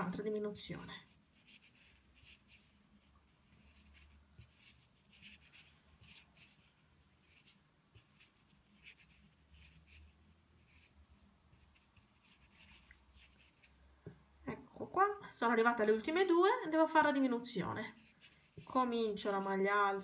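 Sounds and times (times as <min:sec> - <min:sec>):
crochet hook scratching yarn: 0:00.0 - 0:14.2, 0:17.0 - 0:19.6.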